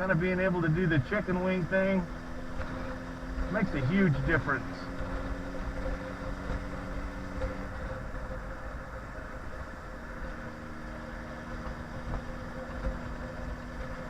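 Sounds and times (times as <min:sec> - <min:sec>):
motorcycle engine running: 0:00.0 - 0:14.0
wind rumble on microphone: 0:02.5 - 0:14.0.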